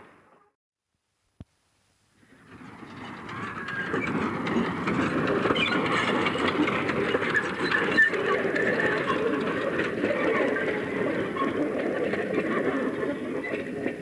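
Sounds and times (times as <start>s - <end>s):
steam locomotive passing: 2.2s - 14.0s
wheels clicking on track: 2.2s - 14.0s.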